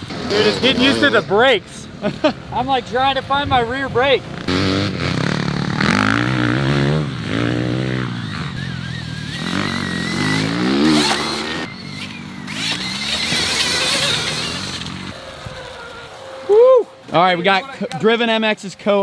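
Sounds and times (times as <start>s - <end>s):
tyre and dirt noise: 0.0s - 19.0s.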